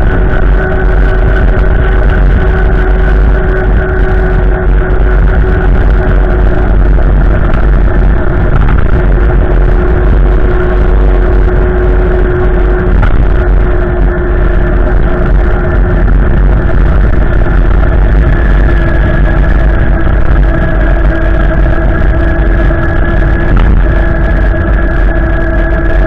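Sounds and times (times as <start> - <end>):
faint humming tone: 0.0 - 26.0
storm wind buffeting microphone: 0.0 - 26.0.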